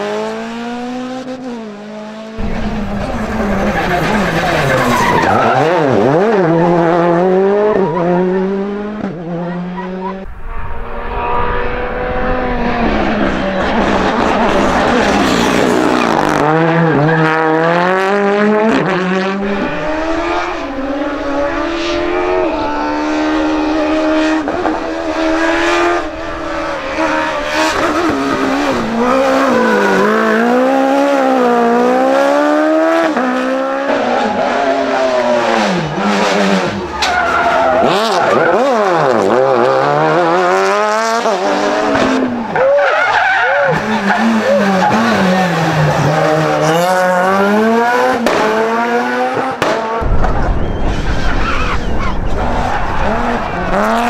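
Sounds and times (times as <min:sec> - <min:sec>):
rally car engines revving: 0:00.0 - 0:54.0
tyres skidding: 0:02.4 - 0:54.0.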